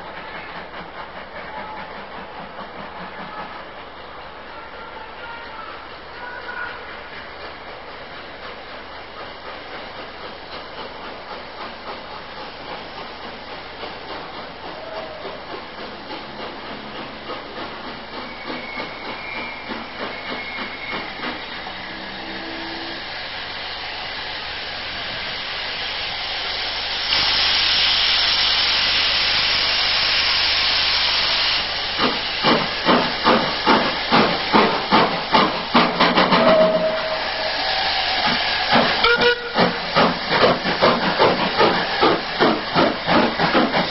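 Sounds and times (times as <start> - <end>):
loud steam hiss: 0.0 - 43.9
steam locomotive chuffing: 0.0 - 43.9.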